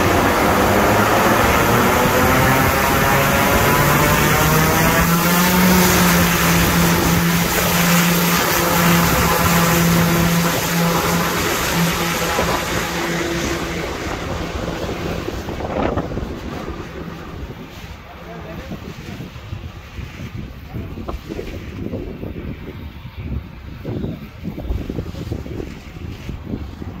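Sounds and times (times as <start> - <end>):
turboprop propeller drone: 0.0 - 27.0.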